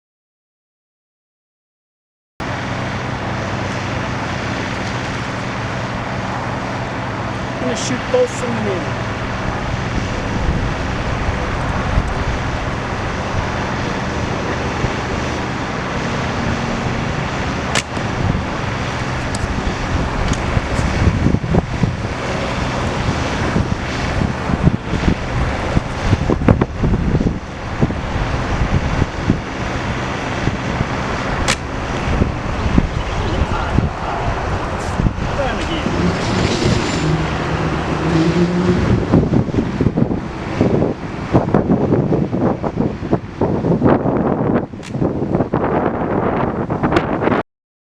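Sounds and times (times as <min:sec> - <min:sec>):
wind buffeting microphone: 0:02.5 - 0:47.4.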